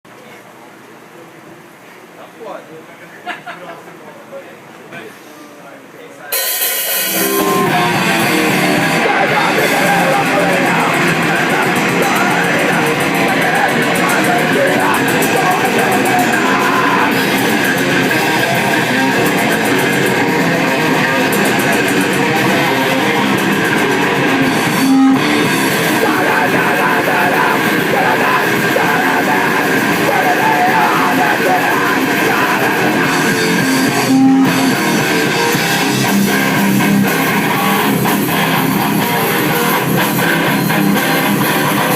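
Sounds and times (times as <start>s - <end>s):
distorted electric guitar and bass: 6.3s - 41.9s.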